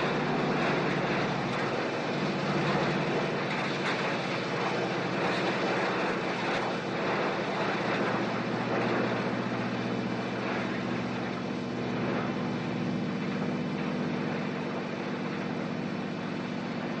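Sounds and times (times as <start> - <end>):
garbage truck engine droning: 0.0 - 17.0.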